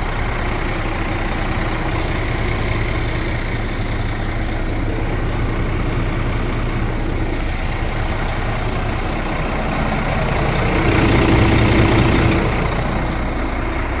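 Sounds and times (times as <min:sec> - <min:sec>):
diesel truck idling: 0:00.0 - 0:14.0.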